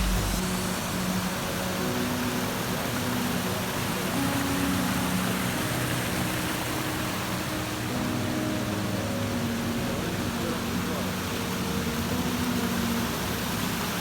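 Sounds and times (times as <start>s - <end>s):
soft sustained music notes: 0.0s - 14.0s
waterfall rushing: 0.0s - 14.0s.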